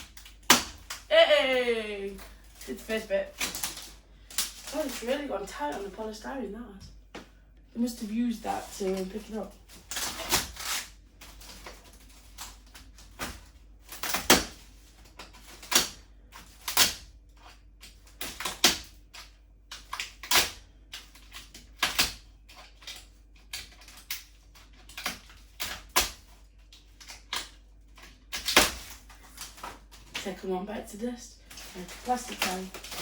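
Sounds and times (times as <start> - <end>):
plastic wrap crinkling and rustling: 0.0 - 33.0.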